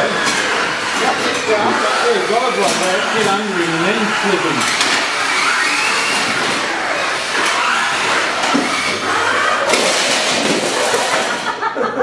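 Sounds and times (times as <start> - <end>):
robot electric motors humming: 0.0 - 11.8.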